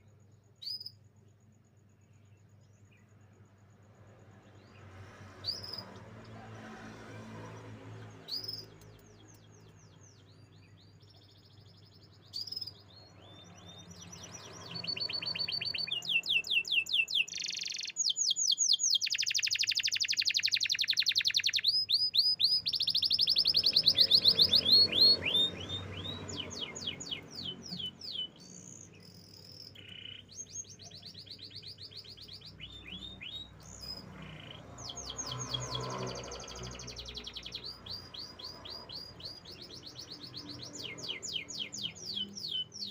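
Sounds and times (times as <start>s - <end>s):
canary singing: 4.6s - 42.9s.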